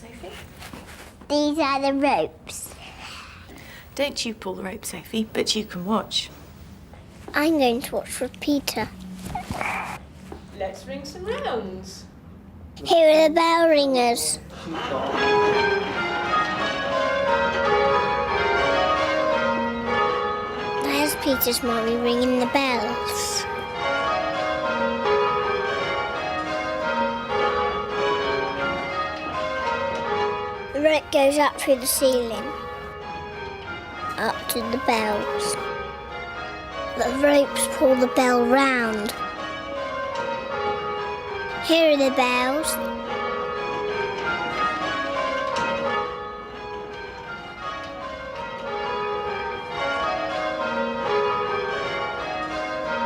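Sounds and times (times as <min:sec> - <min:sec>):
church bells ringing: 0:03.5 - 0:09.4, 0:12.9 - 0:53.0.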